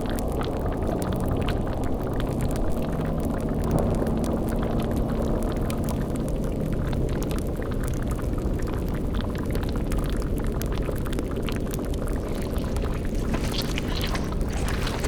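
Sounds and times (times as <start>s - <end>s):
cauldron boiling and bubbling: 0.0s - 15.0s.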